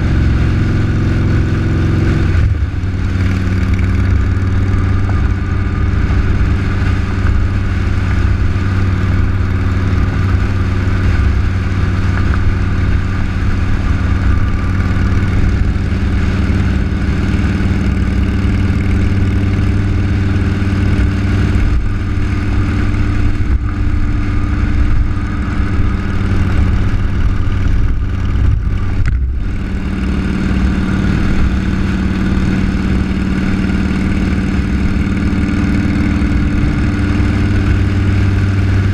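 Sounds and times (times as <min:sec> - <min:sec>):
vehicle engine running steadily: 0:00.0 - 0:38.9.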